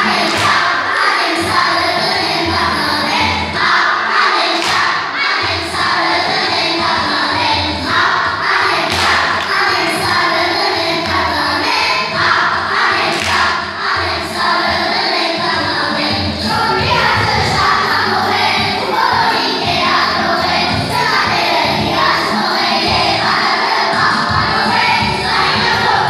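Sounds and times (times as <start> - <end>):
children singing: 0.0 - 26.0.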